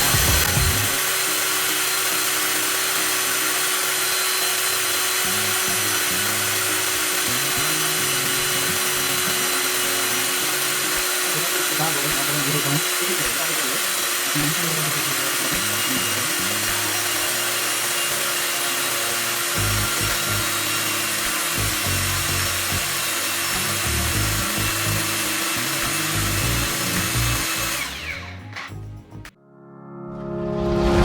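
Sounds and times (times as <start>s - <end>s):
angle grinder running: 0.0s - 28.8s.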